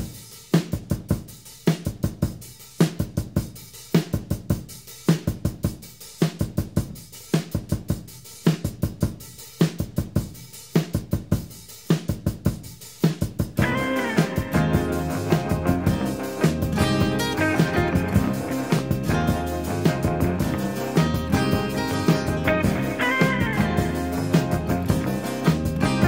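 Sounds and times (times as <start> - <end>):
drum kit playing rock beat: 0.0 - 26.0.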